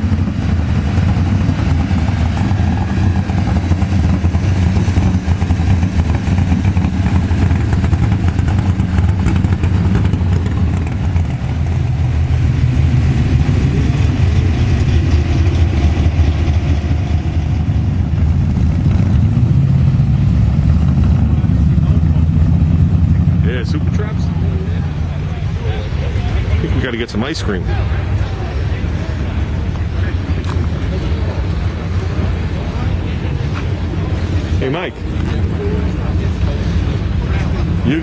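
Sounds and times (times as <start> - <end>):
vehicle engine rumbling: 0.0 - 38.0.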